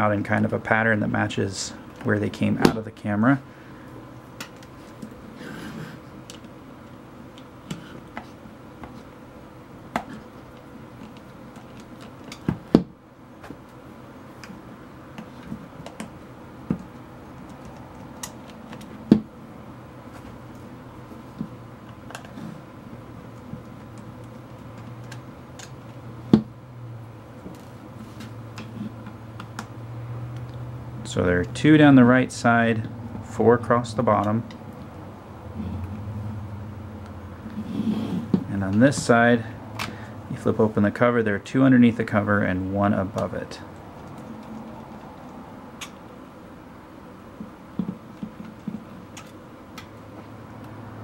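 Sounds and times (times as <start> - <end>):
low hum: 0.0 - 51.0.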